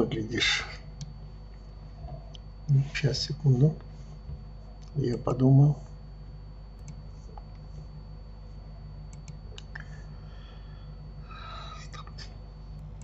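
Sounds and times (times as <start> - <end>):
low electrical hum: 0.0 - 13.0
thin high whine: 0.0 - 13.0.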